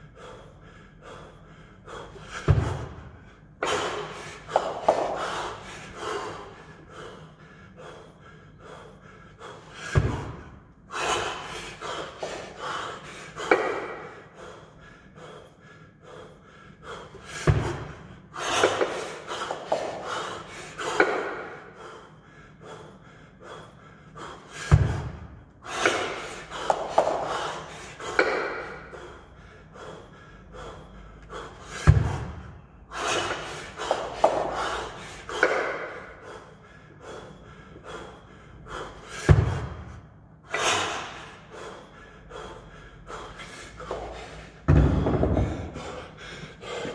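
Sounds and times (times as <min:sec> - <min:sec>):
man breathing hard: 0:00.0 - 0:46.9.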